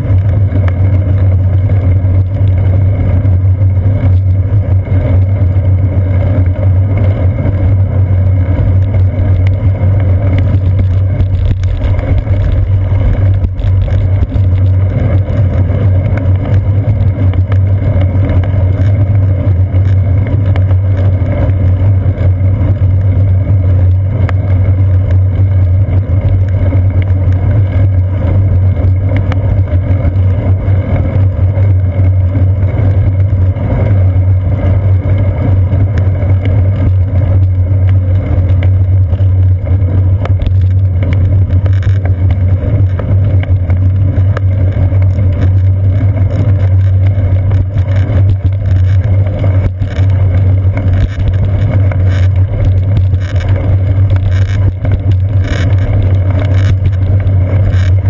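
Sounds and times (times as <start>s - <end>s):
bicycle tyres rolling on pavement: 0.0s - 58.0s
wind rumble: 0.0s - 58.0s.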